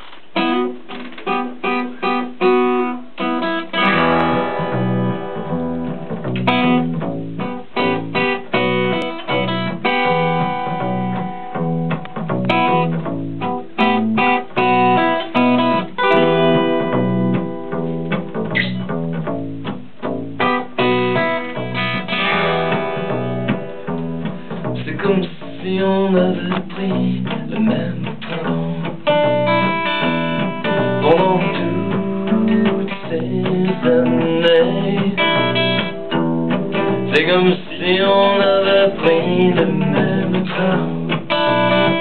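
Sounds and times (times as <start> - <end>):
acoustic guitar playing: 0.0 - 42.0
electric bass guitar: 0.0 - 42.0.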